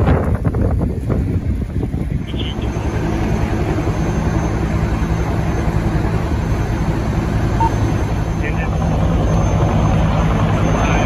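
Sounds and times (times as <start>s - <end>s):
diesel engine idling: 1.2s - 11.0s.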